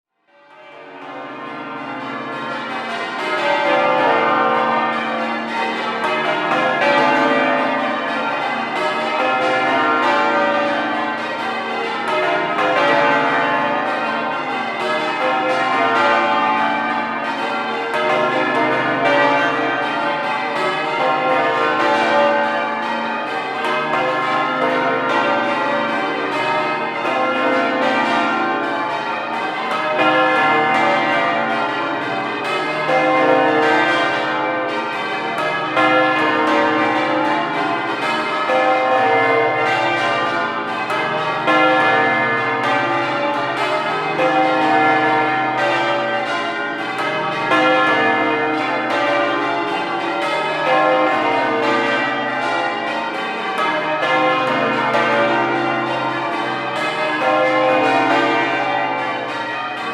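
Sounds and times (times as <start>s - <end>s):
church bells ringing in rounds: 0.2s - 59.9s.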